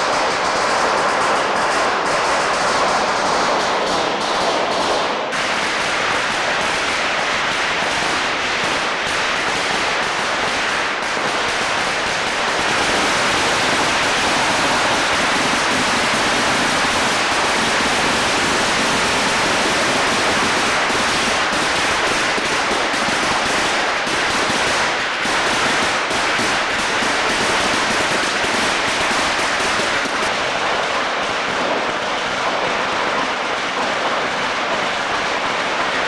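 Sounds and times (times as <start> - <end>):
firecrackers crackling: 0.0 - 36.0.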